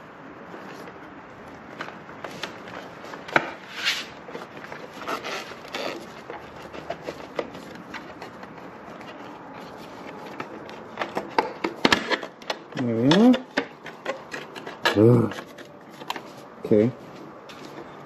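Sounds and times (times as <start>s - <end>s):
plastic panels rubbing and scraping: 1.6s - 16.6s.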